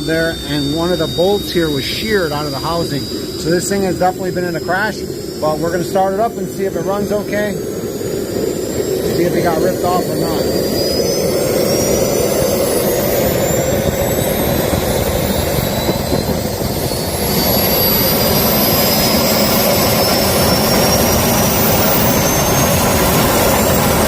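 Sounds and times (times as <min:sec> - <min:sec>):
jet engine spooling up: 0:00.0 - 0:24.0.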